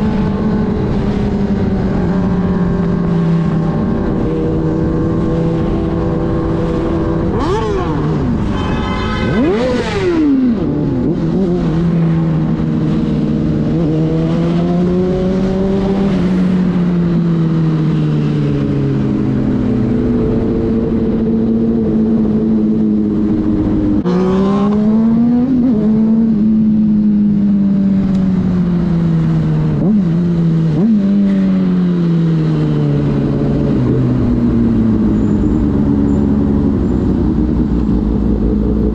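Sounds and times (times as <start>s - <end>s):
motorcycle engines at speed: 0.0s - 38.9s.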